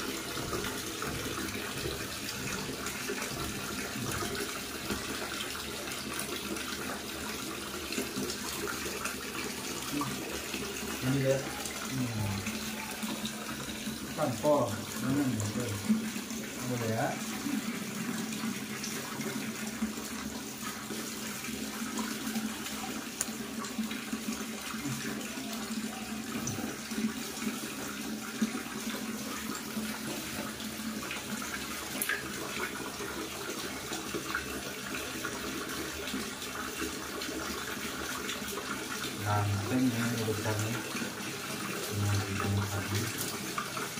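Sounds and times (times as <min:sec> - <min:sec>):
water splashing in plastic basin: 0:00.0 - 0:43.9.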